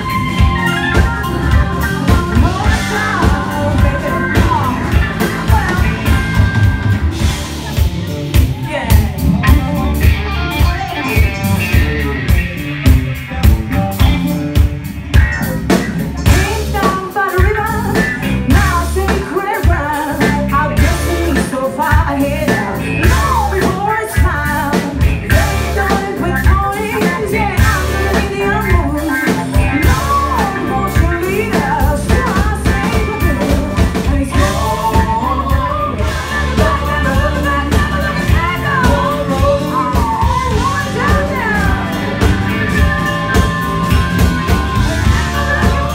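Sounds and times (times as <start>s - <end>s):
person singing: 0.0s - 12.3s, 15.4s - 45.9s
bass guitar: 0.0s - 45.9s
drum kit: 0.0s - 45.9s
electric guitar: 0.0s - 45.9s.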